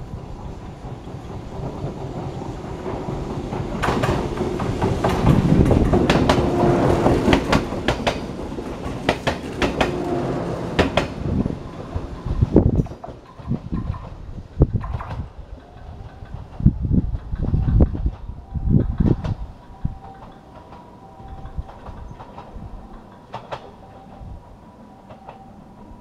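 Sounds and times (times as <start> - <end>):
train wheels clacking over rail joints: 0.0 - 24.3
train rumble: 0.0 - 26.0.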